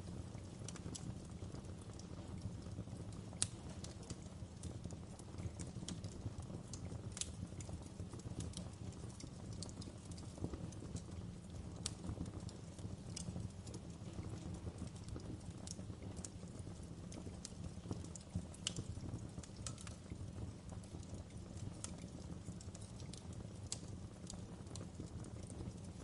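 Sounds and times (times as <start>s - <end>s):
fire crackling in fireplace: 0.0s - 26.0s
low rumble of flames: 0.0s - 26.0s.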